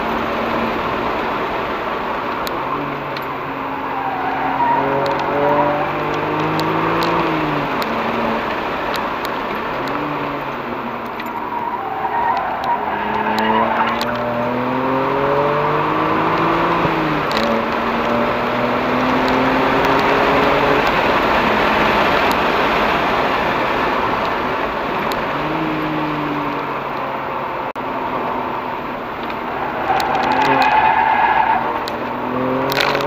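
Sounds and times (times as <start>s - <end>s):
car engine accelerating: 0.0s - 33.0s
road and wind noise: 0.0s - 33.0s.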